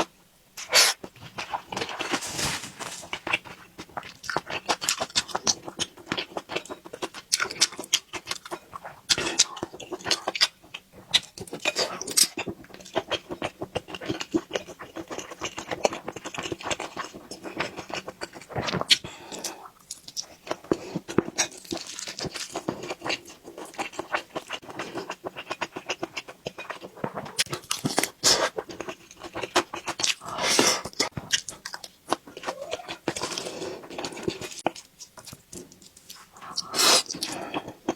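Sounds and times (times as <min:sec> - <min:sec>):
person chewing with wet smacks: 0:03.1 - 0:37.9.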